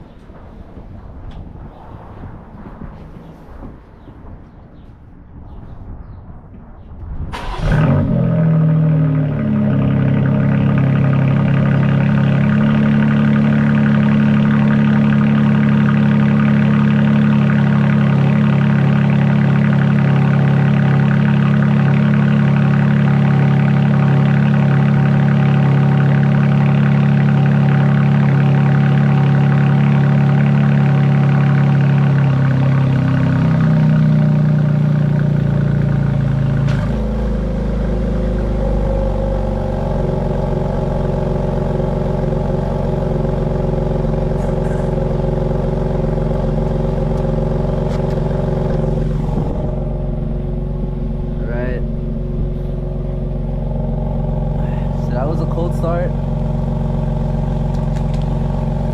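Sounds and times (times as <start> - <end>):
engine idling: 7.4 - 58.9.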